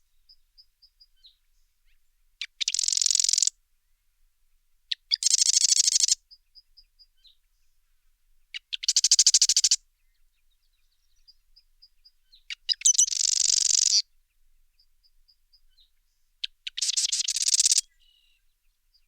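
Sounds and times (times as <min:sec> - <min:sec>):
wren trilling song: 0:00.0 - 0:03.6, 0:04.9 - 0:07.5, 0:08.5 - 0:14.1, 0:14.8 - 0:19.0.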